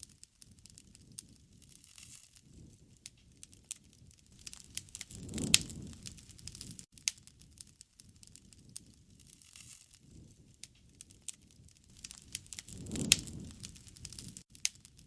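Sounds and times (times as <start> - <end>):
wood fire crackling: 0.0 - 15.0
flames rushing: 2.4 - 15.0.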